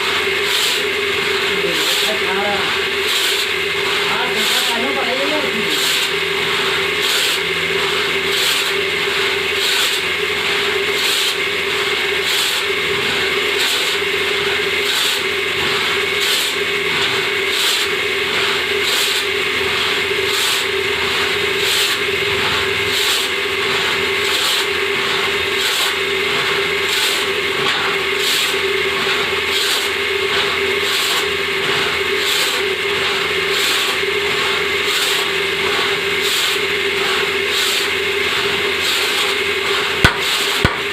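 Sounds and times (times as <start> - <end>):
hand saw cutting wood: 0.0 - 40.9.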